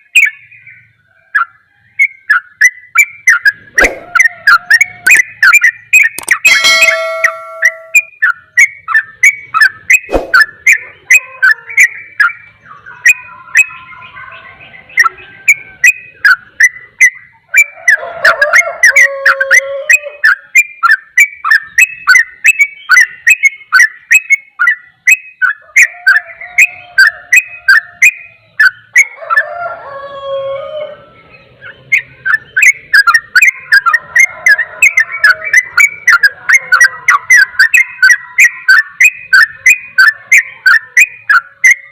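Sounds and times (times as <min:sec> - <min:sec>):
bird singing whistled notes: 0:00.0 - 0:18.0, 0:18.9 - 0:29.3, 0:31.0 - 0:41.9.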